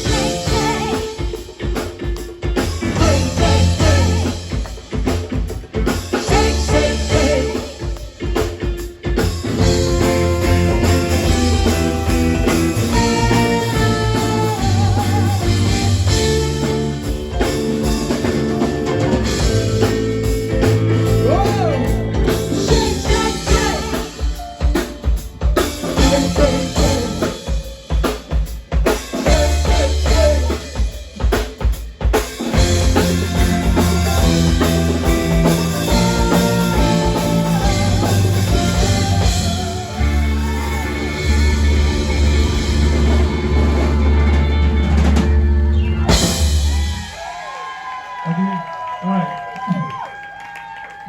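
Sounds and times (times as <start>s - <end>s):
bass line: 0.0s - 1.4s, 2.5s - 24.2s, 25.4s - 27.4s, 29.2s - 30.8s, 32.5s - 47.2s
drum kit beat: 0.0s - 47.4s.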